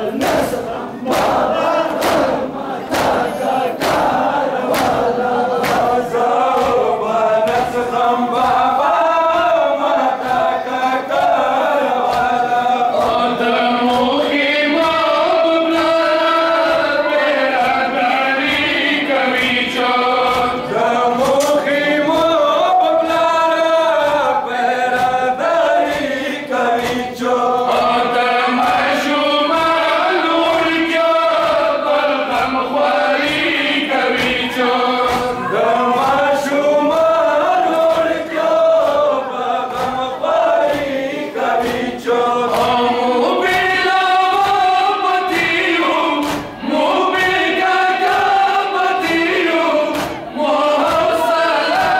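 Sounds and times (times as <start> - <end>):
men chanting in unison: 0.0 - 51.9
chest-beating slaps: 0.1 - 51.9.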